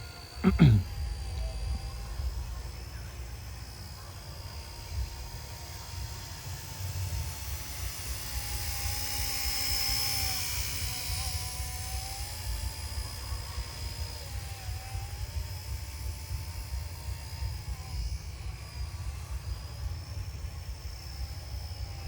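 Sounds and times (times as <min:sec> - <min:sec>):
rc helicopter rotor whine: 0:00.0 - 0:22.0.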